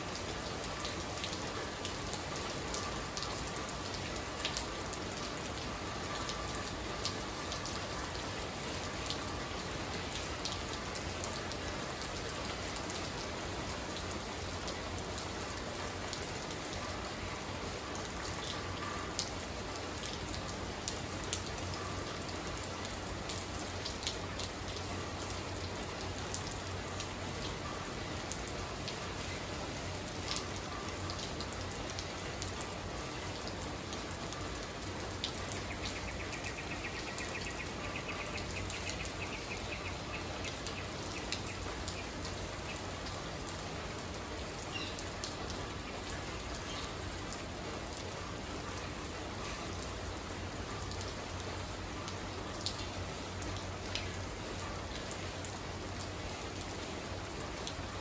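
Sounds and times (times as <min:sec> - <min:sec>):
rain on tiled floor: 0:00.0 - 0:58.0.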